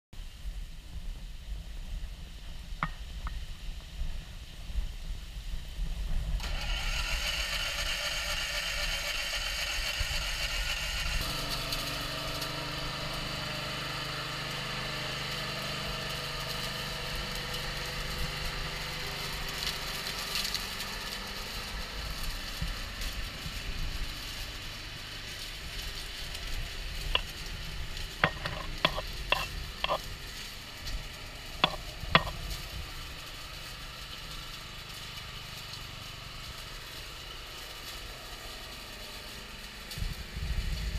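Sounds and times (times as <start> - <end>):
lawn mower engine running: 6.3 - 40.9.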